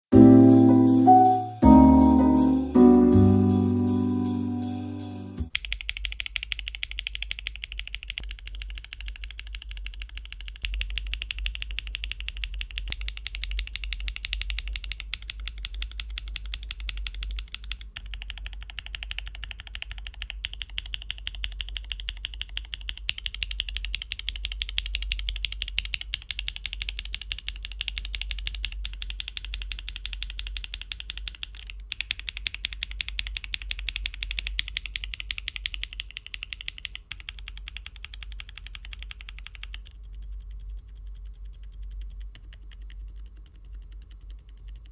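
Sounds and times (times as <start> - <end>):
fast typing on mechanical keyboard: 5.5 - 44.9.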